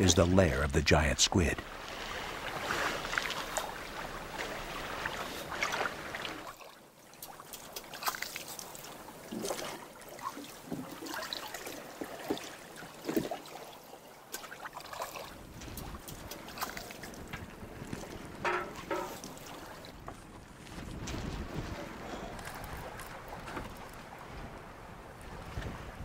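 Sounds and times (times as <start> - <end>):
water lapping against boat hull: 1.4 - 26.0.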